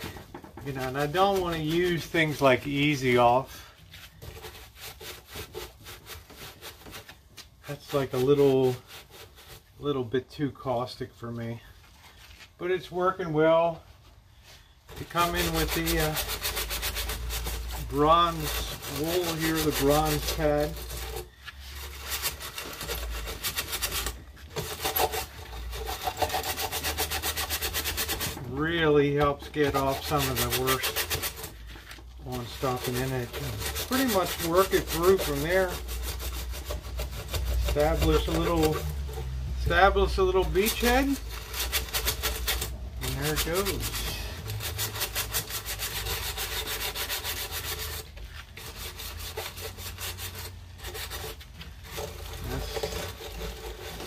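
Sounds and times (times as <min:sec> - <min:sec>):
metal pad scrubbing metal: 0:00.0 - 0:09.7, 0:14.9 - 0:54.0.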